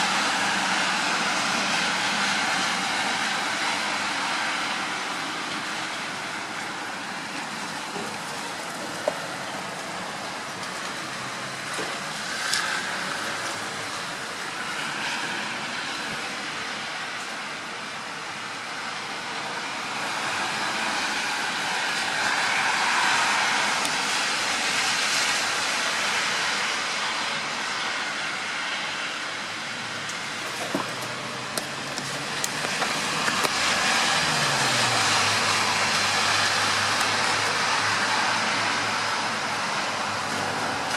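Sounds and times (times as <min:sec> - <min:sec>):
rain: 0:00.0 - 0:40.9.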